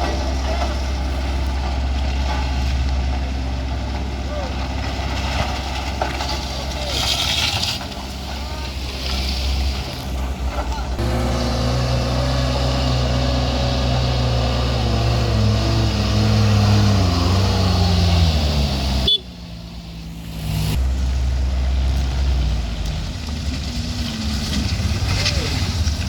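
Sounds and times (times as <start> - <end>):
vehicle engine running under load: 0.0 - 26.0.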